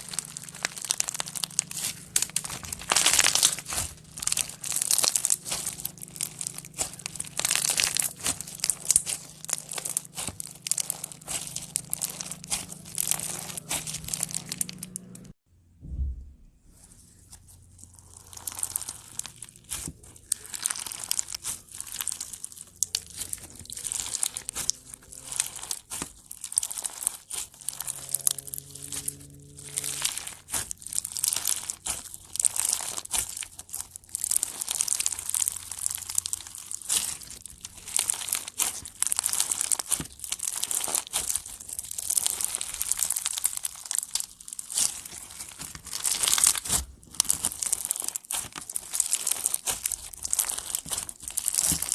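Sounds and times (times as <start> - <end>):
slime crackling and popping: 0.0 - 15.4, 17.6 - 51.9.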